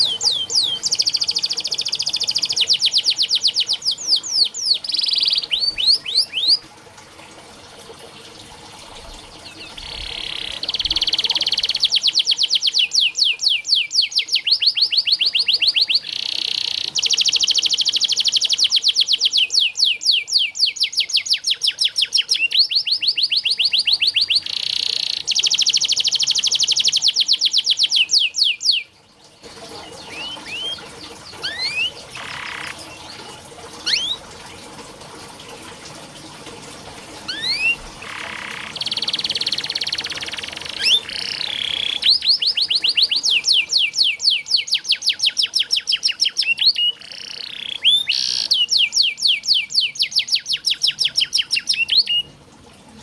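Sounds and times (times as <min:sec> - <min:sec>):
canary singing: 0:00.0 - 0:06.6, 0:09.4 - 0:28.9, 0:29.8 - 0:34.2, 0:37.3 - 0:52.3.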